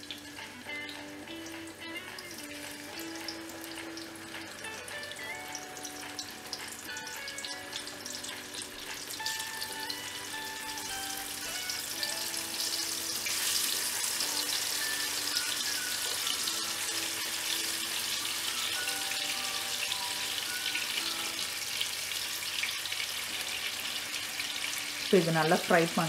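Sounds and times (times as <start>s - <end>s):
faint background music: 0.0s - 26.0s
fish sizzling in hot oil: 0.0s - 26.0s.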